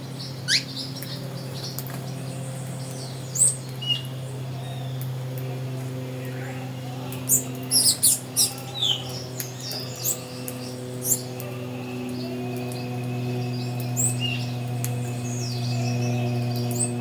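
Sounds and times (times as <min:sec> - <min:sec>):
songbirds chirping: 0:00.0 - 0:17.0
steady low hum: 0:00.0 - 0:17.0.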